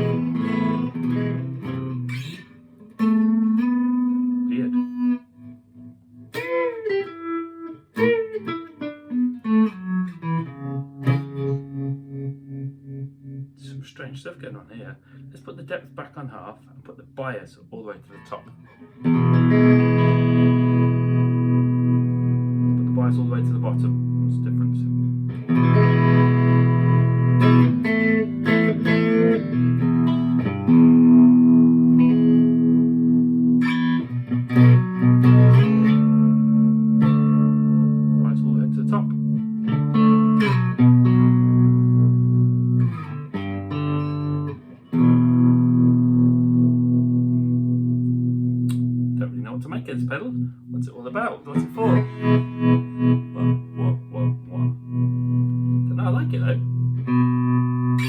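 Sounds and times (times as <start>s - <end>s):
electric guitar with tremolo: 0.0s - 17.0s, 18.0s - 58.0s.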